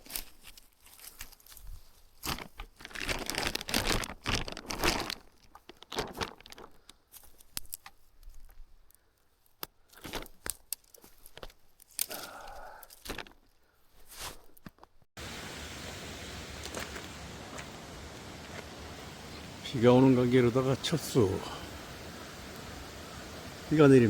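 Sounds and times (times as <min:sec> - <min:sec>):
crunching of dry leaves and twigs: 0:00.0 - 0:19.6.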